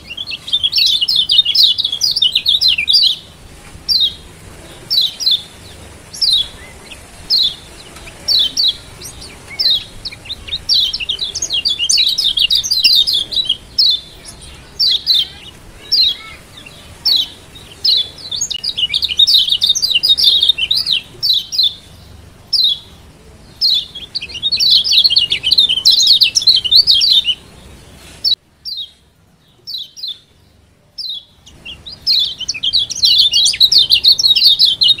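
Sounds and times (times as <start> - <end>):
bird chirping sharply: 0.0 - 29.0, 31.0 - 35.0.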